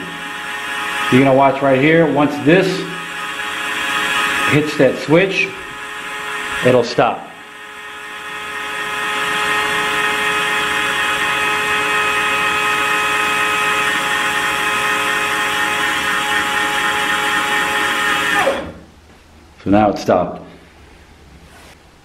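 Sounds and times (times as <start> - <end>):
motor spinning down: 0.0 - 18.8
small electric motor whining: 0.0 - 18.8.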